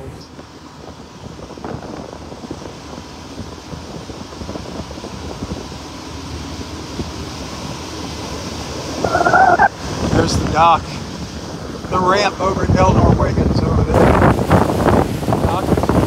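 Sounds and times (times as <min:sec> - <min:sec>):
water washing along hull: 0:00.0 - 0:16.0
wind buffeting microphone: 0:00.0 - 0:16.0.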